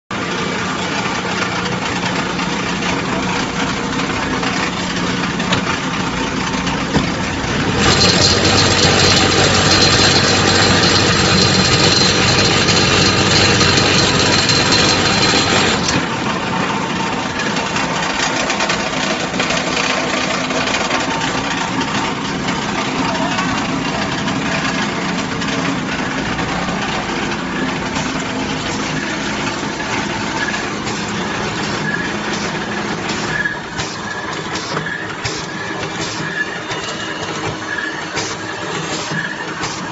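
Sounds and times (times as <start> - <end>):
high steady machine whine: 0.1 - 39.9
machinery mechanical hum: 0.1 - 39.9.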